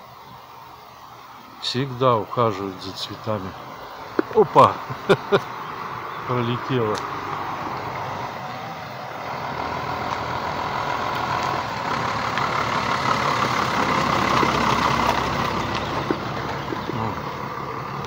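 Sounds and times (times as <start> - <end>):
truck driving past: 1.6 - 18.0.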